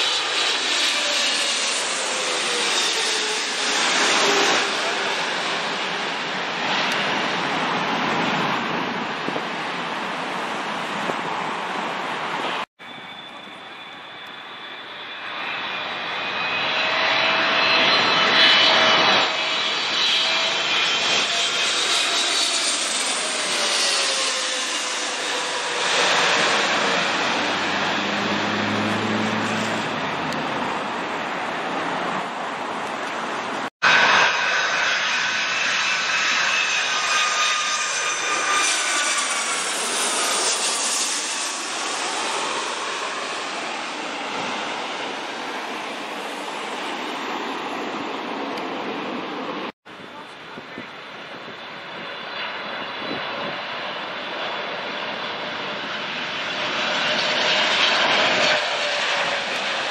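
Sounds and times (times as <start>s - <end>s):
jet engine roar overhead: 0.0s - 59.9s
jet engine whine sliding down: 0.0s - 59.9s.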